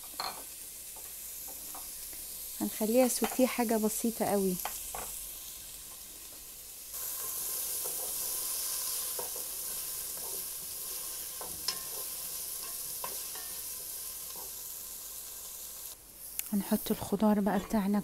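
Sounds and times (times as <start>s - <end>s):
onion sizzling in butter: 0.0s - 18.0s.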